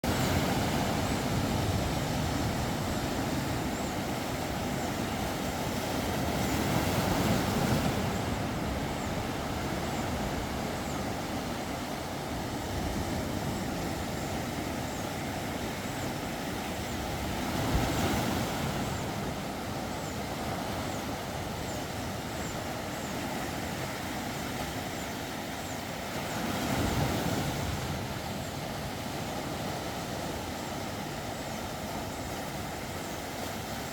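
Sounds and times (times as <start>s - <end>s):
sea waves washing ashore: 0.0s - 33.9s.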